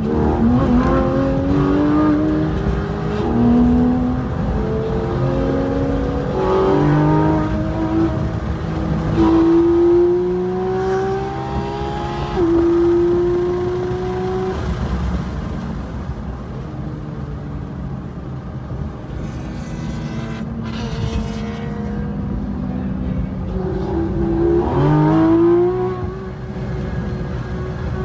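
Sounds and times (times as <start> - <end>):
car engine revving: 0.0 - 15.1, 19.1 - 28.0.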